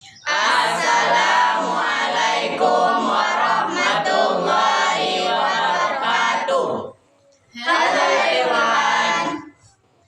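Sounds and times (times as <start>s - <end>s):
choir singing: 0.2s - 7.0s, 7.6s - 9.6s.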